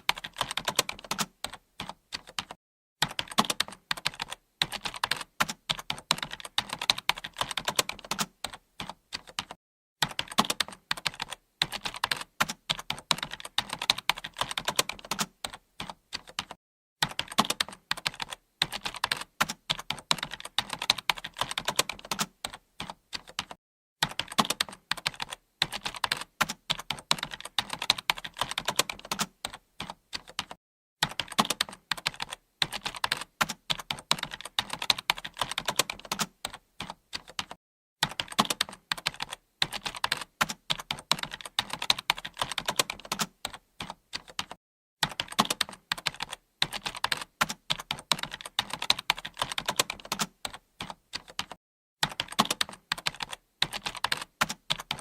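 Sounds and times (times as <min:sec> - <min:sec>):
keyboard typing clicks: 0:00.0 - 0:55.0.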